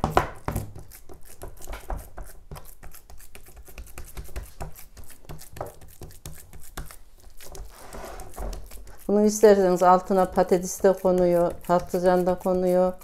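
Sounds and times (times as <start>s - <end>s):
hands slapping minced meat: 0.0s - 7.7s, 8.5s - 13.0s.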